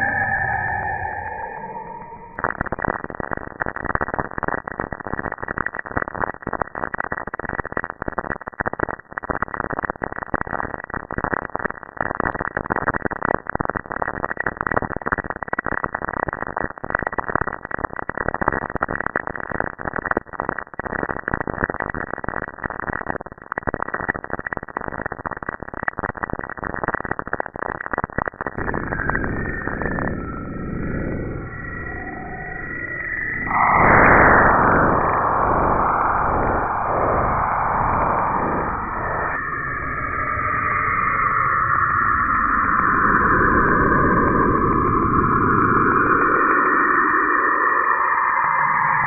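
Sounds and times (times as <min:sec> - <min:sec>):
crackling static: 0:00.0 - 0:49.0.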